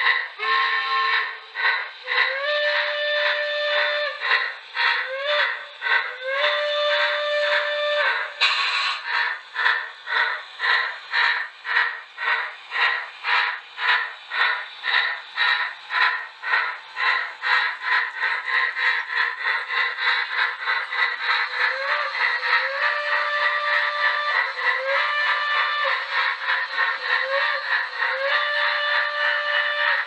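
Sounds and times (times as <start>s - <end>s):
steam locomotive chuffs: 0.0s - 30.0s
train whistle: 0.0s - 30.0s.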